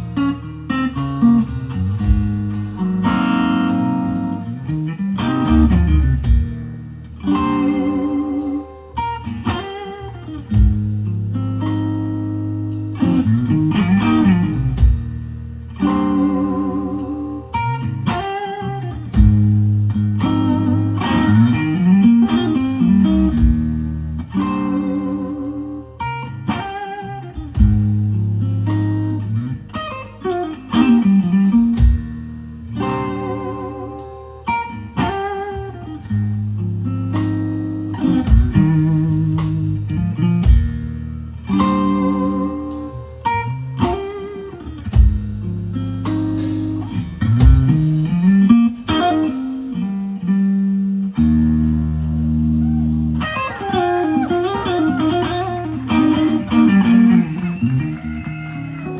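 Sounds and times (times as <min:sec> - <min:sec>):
sustained bass notes: 0:00.0 - 0:18.1, 0:18.7 - 0:26.5, 0:27.3 - 0:35.0, 0:35.6 - 0:58.9
electric guitar blues solo: 0:00.0 - 0:58.9.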